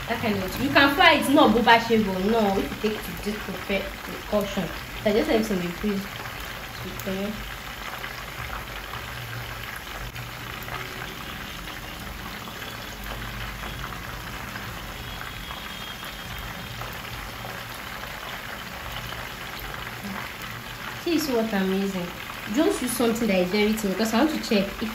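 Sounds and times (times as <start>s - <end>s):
fish deep-frying in oil: 0.0s - 24.9s.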